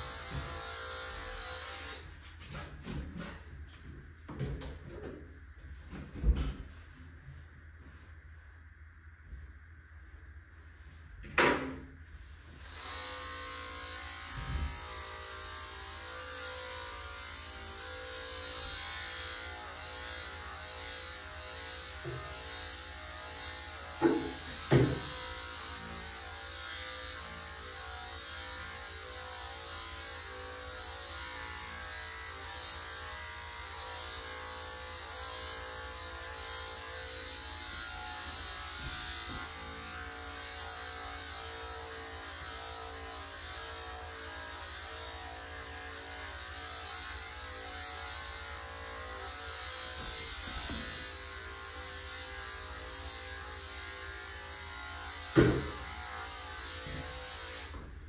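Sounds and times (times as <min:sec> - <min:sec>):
electric clipper running: 0:00.0 - 0:03.5, 0:12.6 - 0:58.0.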